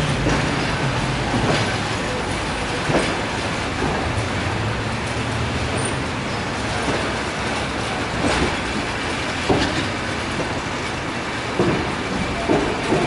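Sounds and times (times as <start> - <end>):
train rolling rumble: 0.0 - 13.0
wheel clacks over rail joints: 0.0 - 13.0.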